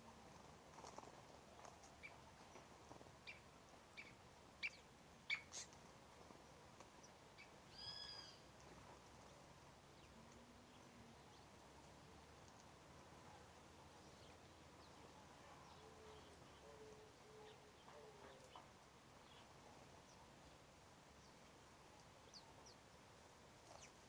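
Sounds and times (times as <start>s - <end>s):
birds chirping faintly: 1.0s - 24.0s.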